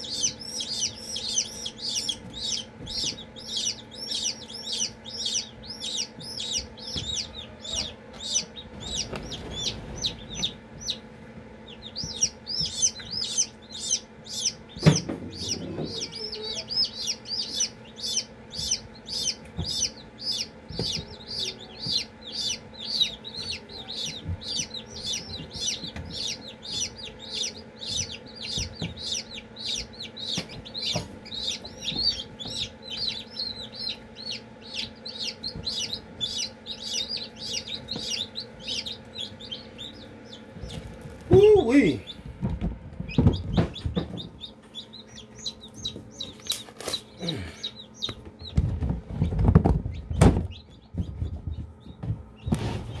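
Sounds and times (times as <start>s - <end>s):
chicks peeping: 0.0s - 53.0s
steady low hum: 0.0s - 53.0s.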